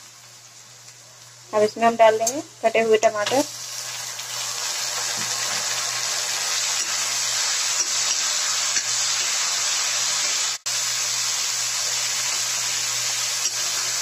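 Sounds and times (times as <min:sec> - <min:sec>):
tomatoes sizzling in oil: 0:00.0 - 0:14.0.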